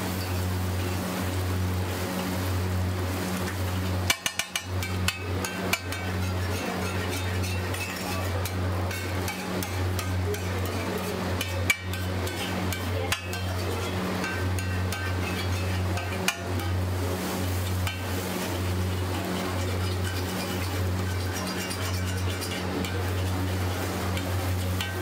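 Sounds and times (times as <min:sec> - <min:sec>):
steady low hum: 0:00.0 - 0:25.0
spatula scraping on iron griddle: 0:03.2 - 0:25.0.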